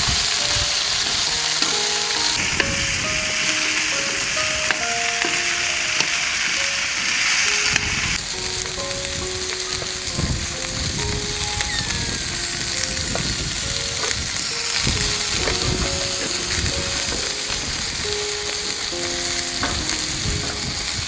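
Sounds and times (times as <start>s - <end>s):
food sizzling in a pan: 0.0s - 21.0s
soft background music: 0.0s - 21.0s.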